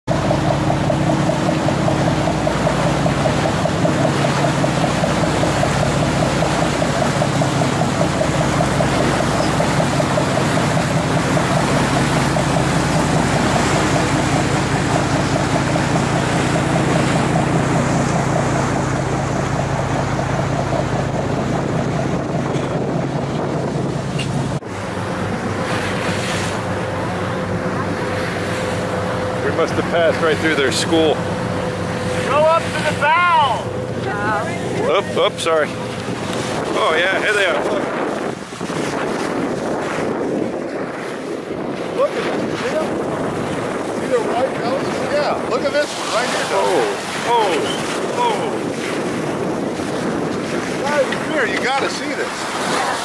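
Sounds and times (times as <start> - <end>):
boat engine droning: 0.0 - 53.0
water noise: 0.0 - 53.0
rushing wind: 0.1 - 53.0.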